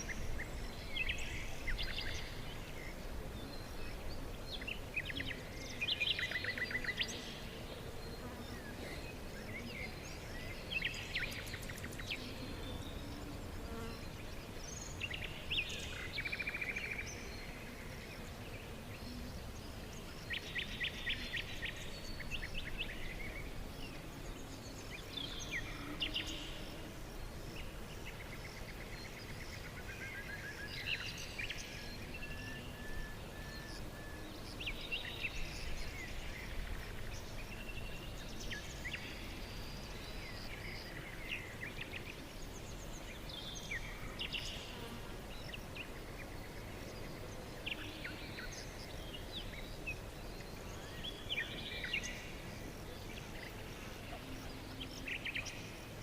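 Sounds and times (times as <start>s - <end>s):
songbirds singing and calling: 0.0s - 56.0s.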